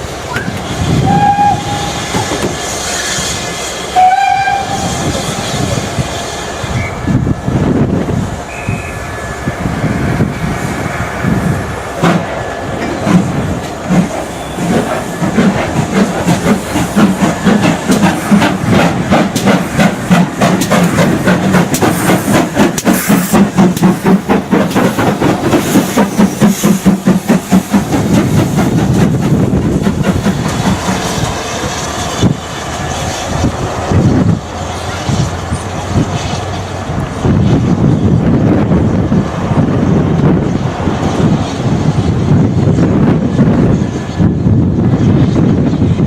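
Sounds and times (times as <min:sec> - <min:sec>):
steam hissing: 0:00.0 - 0:44.4
steam train exhaust chuffs: 0:00.0 - 0:45.9
train rumble: 0:00.0 - 0:46.0.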